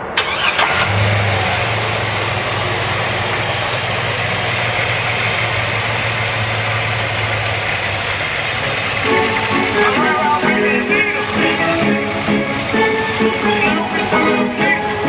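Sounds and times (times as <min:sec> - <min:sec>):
car engine starting and idling: 0:00.0 - 0:15.0.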